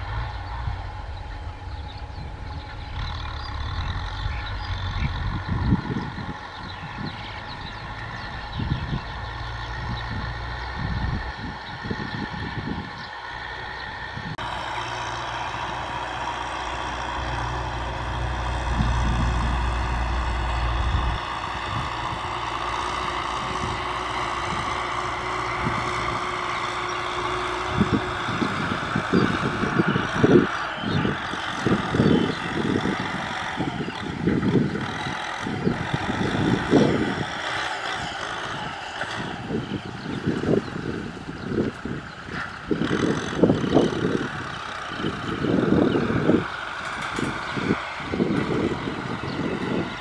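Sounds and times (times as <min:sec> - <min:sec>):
tractor diesel engine running: 0:00.0 - 0:50.0
uneven low rumbling: 0:00.0 - 0:50.0.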